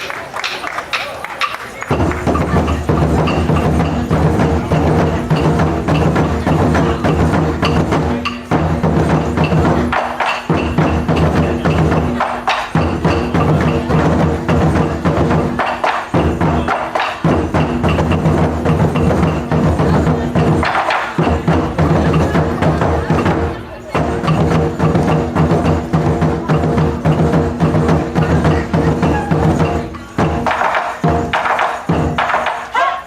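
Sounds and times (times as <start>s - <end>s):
taiko drums: 0.0s - 33.0s.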